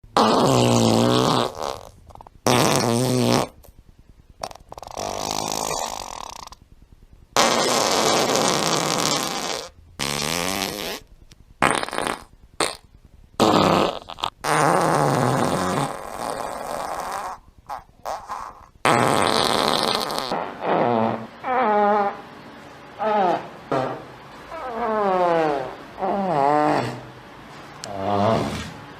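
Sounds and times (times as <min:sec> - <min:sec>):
fart sound effects: 0:00.1 - 0:03.7, 0:04.4 - 0:06.6, 0:07.4 - 0:22.2, 0:23.0 - 0:27.1.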